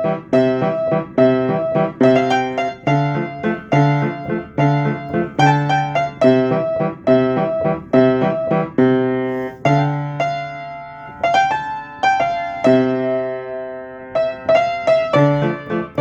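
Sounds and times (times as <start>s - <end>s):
piano playing chords: 0.0s - 16.0s.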